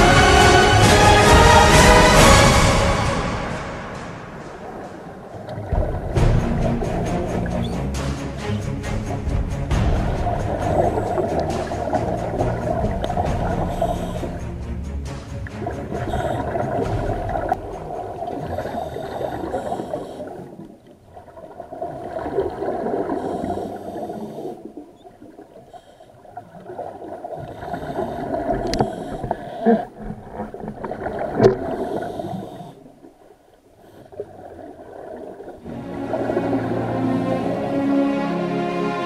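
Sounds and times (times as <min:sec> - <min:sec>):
underwater bubbles gurgling: 0:04.5 - 0:08.6, 0:09.2 - 0:14.5, 0:15.4 - 0:37.3.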